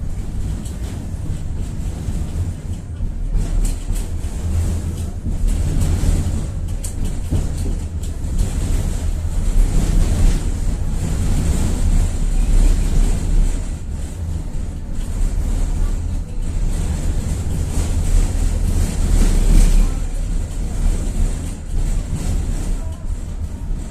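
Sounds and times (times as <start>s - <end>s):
tram running gear rumble: 0.0s - 23.9s.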